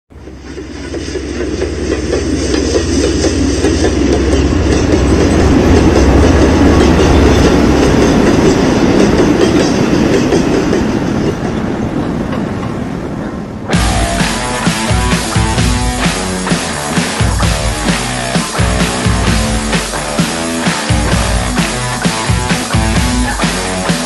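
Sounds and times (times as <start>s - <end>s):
train rumbling on rails: 0.1s - 24.0s.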